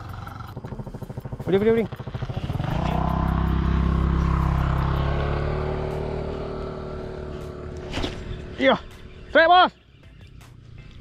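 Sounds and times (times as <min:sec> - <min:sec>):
vehicle engine running: 0:00.0 - 0:09.3.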